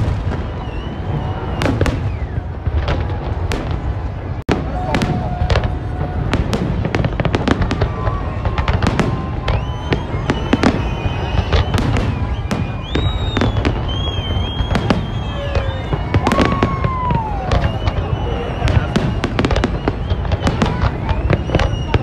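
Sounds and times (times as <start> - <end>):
fireworks bangs: 0.0 - 22.0
fireworks whistling: 0.0 - 22.0.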